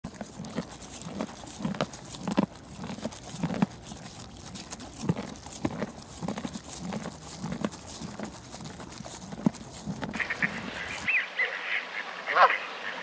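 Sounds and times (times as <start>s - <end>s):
hooves thudding on dirt: 0.0s - 11.1s
pony grazing crunches: 0.0s - 11.5s.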